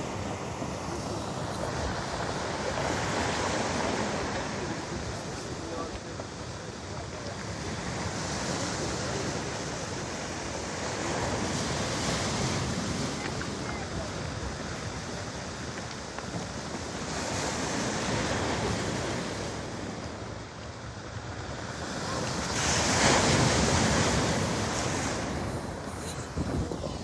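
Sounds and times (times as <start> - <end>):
storm waves crashing on pebbles: 0.0 - 27.0.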